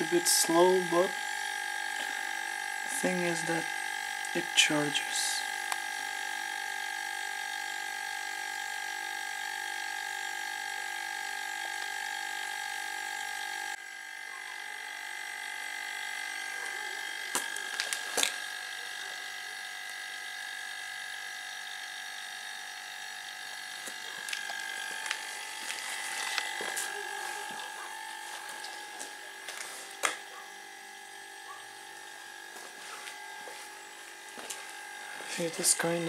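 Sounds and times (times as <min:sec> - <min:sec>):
air compressor humming with whine: 0:00.0 - 0:36.0.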